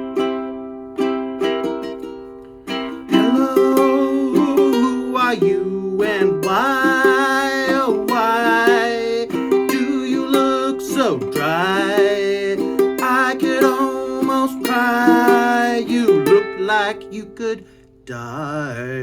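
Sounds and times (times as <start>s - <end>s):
ukulele strummed in chords: 0.0s - 18.1s
person singing: 2.7s - 19.0s.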